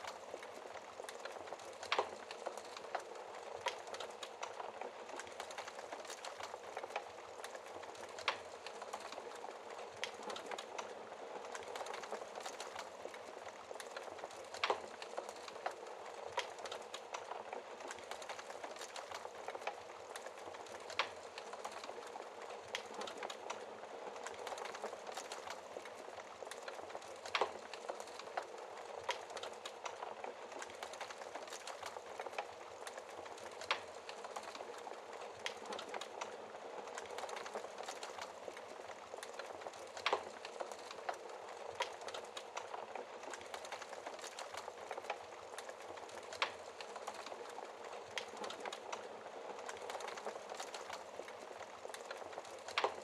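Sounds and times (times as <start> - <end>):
fire popping: 0.0 - 53.0
wood fire crackling: 0.0 - 53.0.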